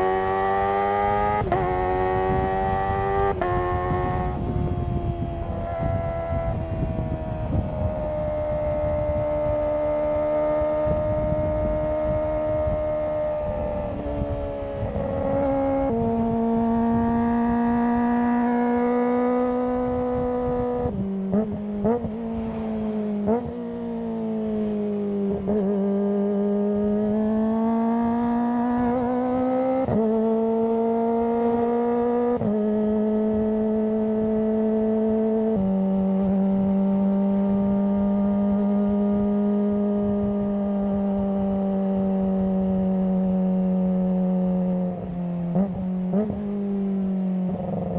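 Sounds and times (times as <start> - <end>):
motorcycle exhaust at high pitch: 0.0 - 22.4, 25.3 - 47.9.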